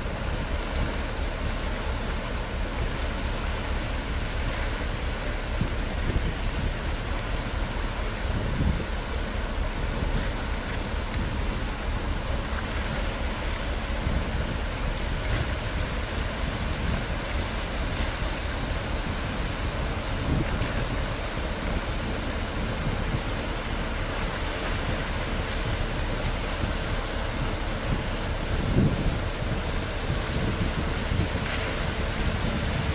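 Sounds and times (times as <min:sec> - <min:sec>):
water rushing along shore: 0:00.0 - 0:32.9
wind on microphone: 0:00.0 - 0:32.9.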